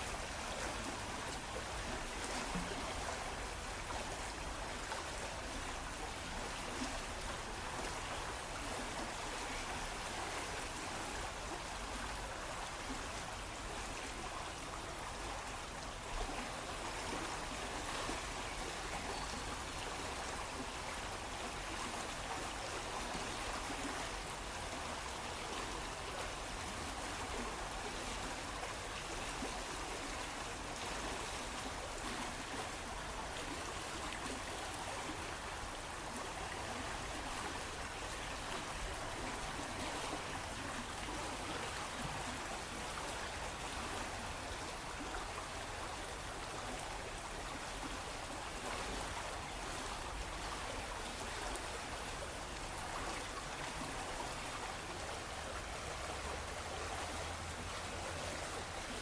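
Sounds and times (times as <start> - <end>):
stream water splashing: 0.0 - 59.0.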